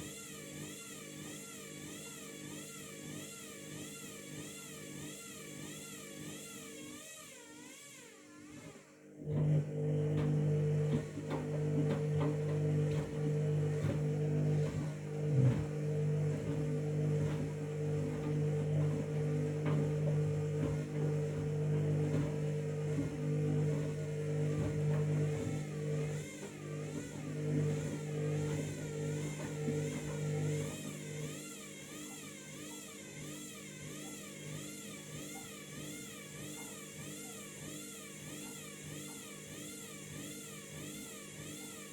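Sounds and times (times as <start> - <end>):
washing machine motor humming: 0.0 - 7.0, 8.6 - 41.9.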